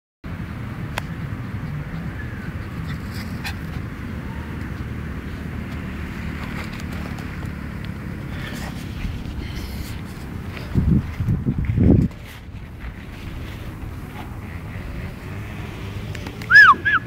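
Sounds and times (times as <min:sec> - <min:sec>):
steady low rumble: 0:00.4 - 0:15.2.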